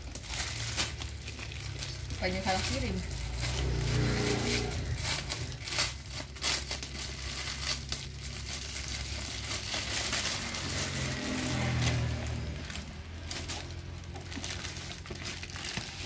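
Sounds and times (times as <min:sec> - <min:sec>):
plastic mailer crinkling: 0:00.0 - 0:16.0
scissors cutting plastic: 0:00.0 - 0:16.0.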